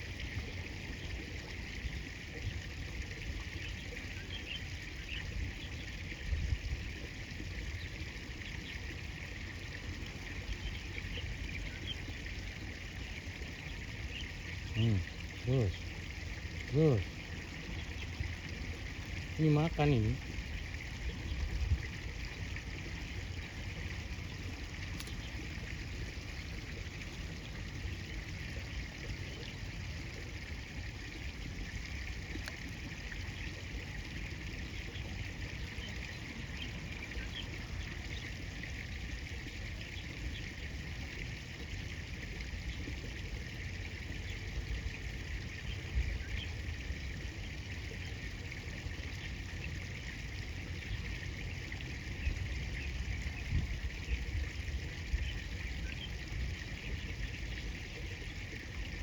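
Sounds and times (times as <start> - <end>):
river water flowing and trickling: 0.0 - 59.0.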